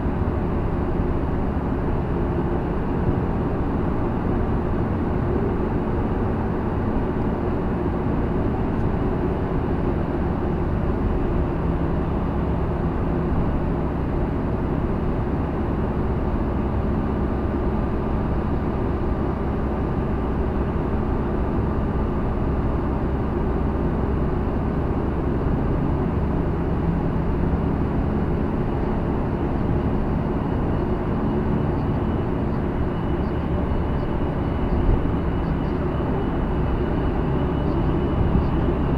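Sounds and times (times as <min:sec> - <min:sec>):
car driving through tunnel: 0:00.0 - 0:38.9.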